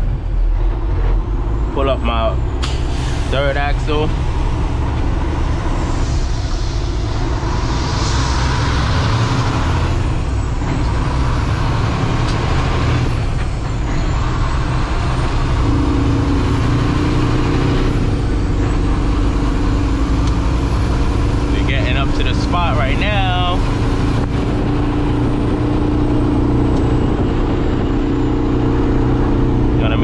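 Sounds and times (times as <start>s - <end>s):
road and wind noise: 0.0s - 30.0s
truck diesel engine running: 0.0s - 30.0s.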